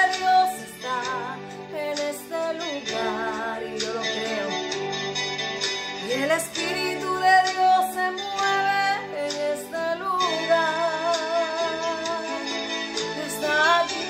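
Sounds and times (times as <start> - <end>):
woman singing: 0.0 - 4.8, 6.0 - 12.6, 13.2 - 14.0
instrumental backing: 0.0 - 14.0.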